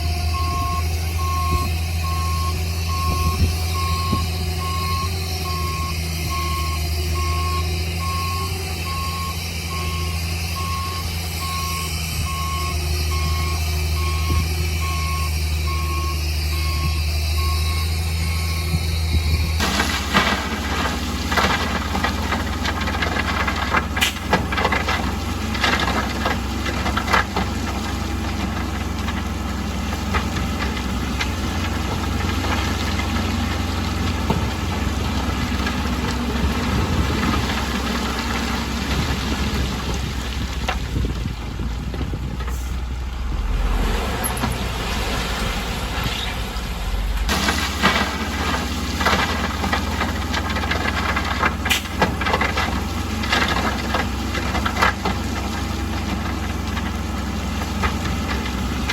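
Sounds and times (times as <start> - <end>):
bulldozer diesel engine rumbling: 0.0 - 58.9.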